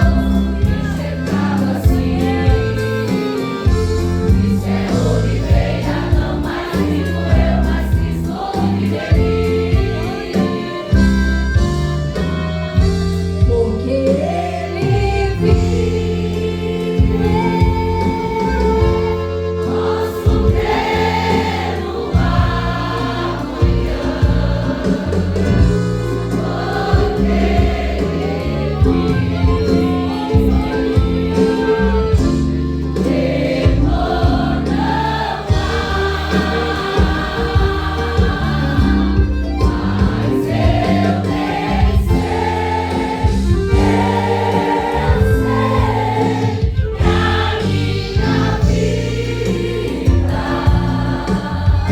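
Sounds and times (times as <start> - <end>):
band accompaniment with bass: 0.0 - 51.9
choir singing gospel song: 0.0 - 51.9.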